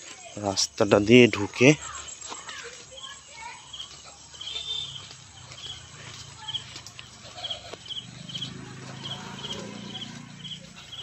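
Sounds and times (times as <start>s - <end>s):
small animal chirping: 1.5s - 11.0s.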